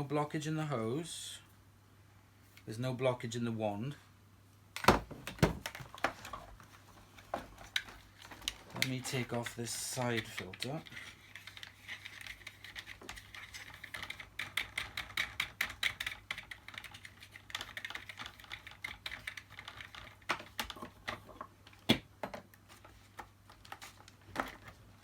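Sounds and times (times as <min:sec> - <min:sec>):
plastic clicking and rattling: 0:04.8 - 0:25.0.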